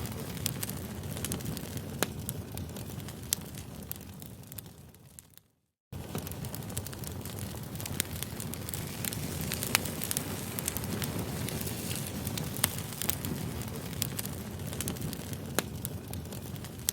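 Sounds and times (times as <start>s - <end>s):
campfire flames rushing: 0.0s - 16.9s
fire crackling and popping: 0.0s - 16.9s.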